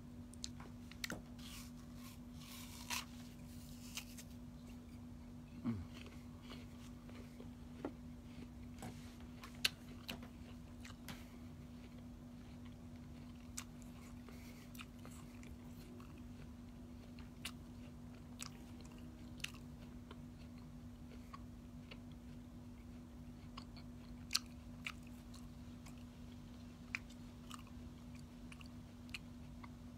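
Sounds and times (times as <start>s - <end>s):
steady low hum: 0.0s - 29.9s
faint chewing: 0.3s - 29.9s.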